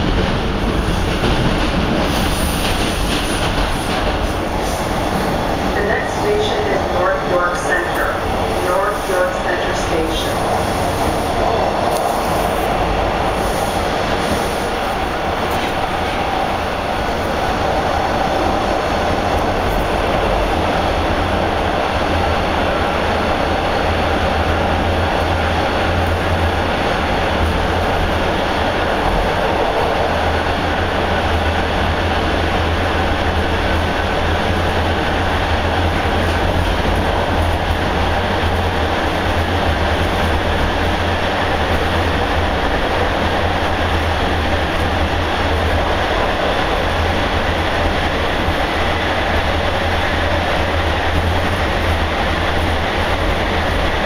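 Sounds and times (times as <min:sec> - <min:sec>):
subway wheels rumbling on rail: 0:00.0 - 0:54.0.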